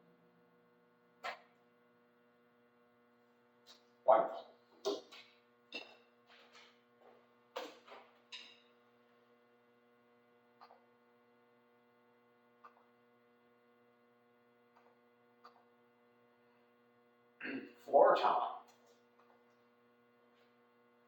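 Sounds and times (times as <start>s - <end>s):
low electrical mains hum: 0.0s - 21.0s.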